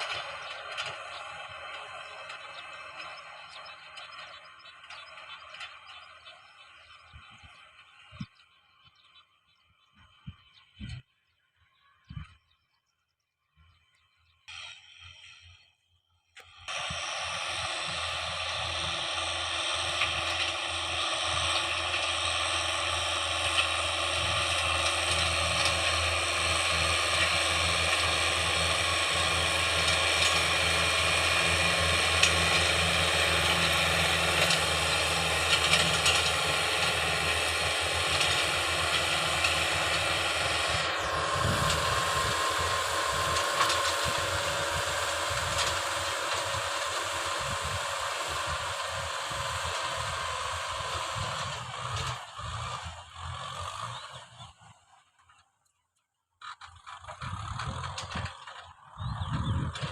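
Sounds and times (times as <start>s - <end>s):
farm machine engine running: 0.0s - 11.4s, 13.6s - 59.9s.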